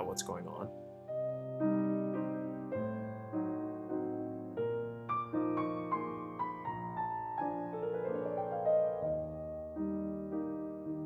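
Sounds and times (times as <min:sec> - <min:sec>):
slow classical piano: 0:00.0 - 0:11.0.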